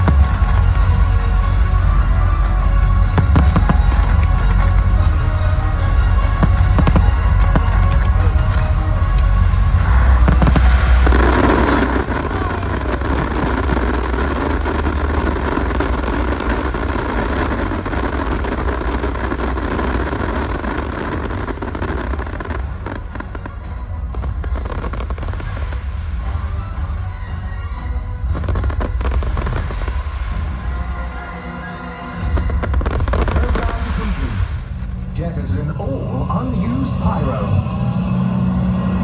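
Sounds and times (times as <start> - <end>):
fireworks bursting and crackling: 0.0 - 35.2
loud music with heavy bass: 0.0 - 39.0.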